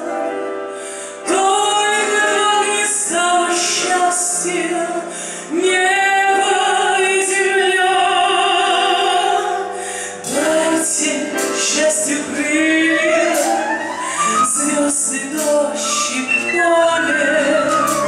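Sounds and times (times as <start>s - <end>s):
amplified backing music: 0.0s - 18.0s
woman singing into microphone: 1.3s - 18.0s.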